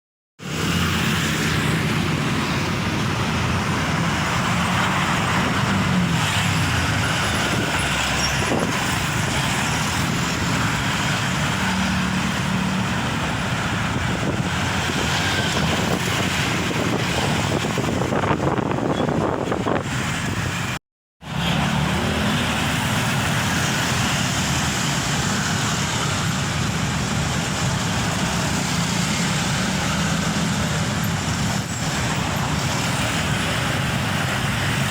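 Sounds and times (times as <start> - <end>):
steady traffic noise: 0.4 - 34.9.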